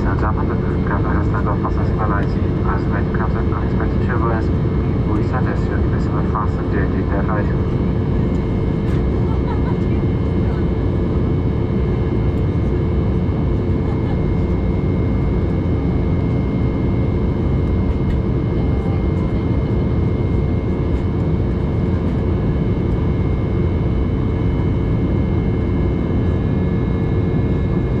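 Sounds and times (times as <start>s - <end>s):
drone of jet engines: 0.0s - 28.0s
rush of air in airliner cabin: 0.0s - 28.0s
steady hum: 0.0s - 28.0s.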